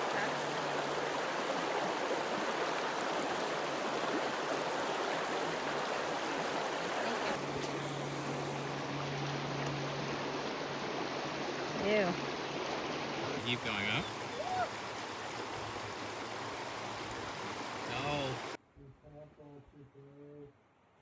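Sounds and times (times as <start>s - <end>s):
creek water rushing: 0.0s - 18.6s.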